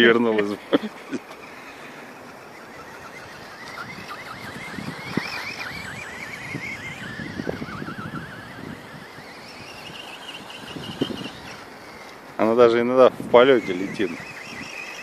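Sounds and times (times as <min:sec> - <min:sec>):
rc truck motor whine: 0:00.8 - 0:15.0.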